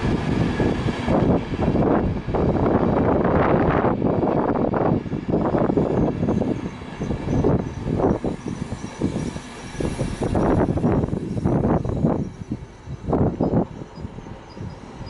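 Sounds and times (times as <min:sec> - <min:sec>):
passenger train rumbling past: 0:00.0 - 0:15.0.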